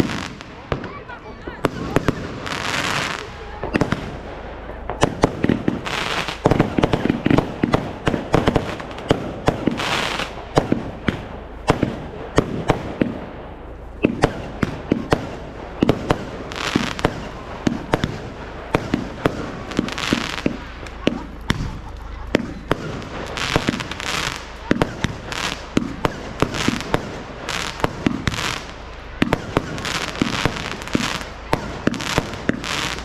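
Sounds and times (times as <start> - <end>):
fireworks bangs and pops: 0.0 - 33.0
fireworks hissing: 0.0 - 33.0.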